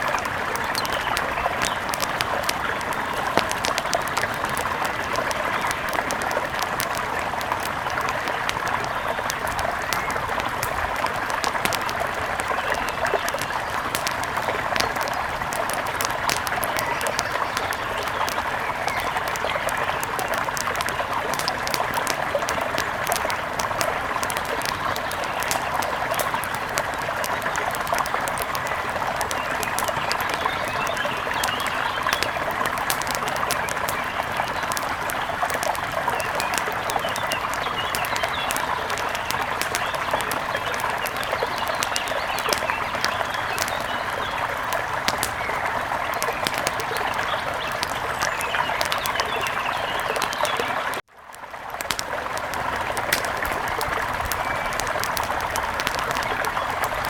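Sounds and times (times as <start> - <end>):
small sharp crackles: 0.0 - 57.0.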